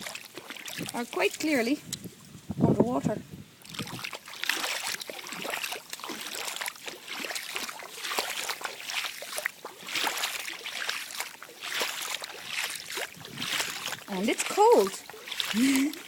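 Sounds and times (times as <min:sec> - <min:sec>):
feet splashing through water: 0:00.0 - 0:02.4, 0:03.6 - 0:16.0.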